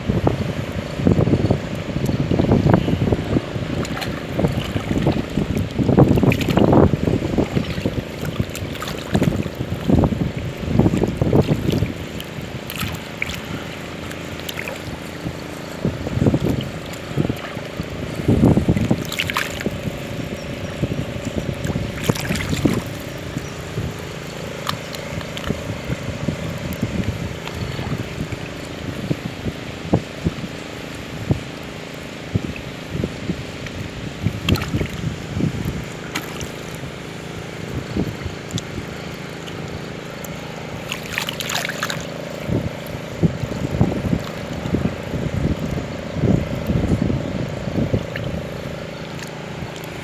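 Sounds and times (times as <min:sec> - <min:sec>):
faint steady hum: 0:00.0 - 0:50.0
water sloshing and splashing: 0:00.0 - 0:50.0
wind buffeting microphone: 0:00.0 - 0:50.0.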